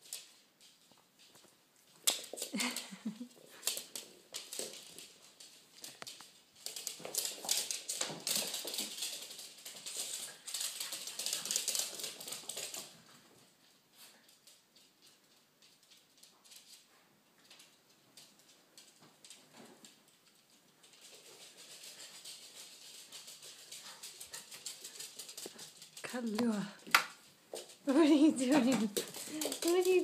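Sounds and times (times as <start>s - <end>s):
dog claws clicking on wood floor: 0.0s - 13.4s, 14.0s - 30.0s.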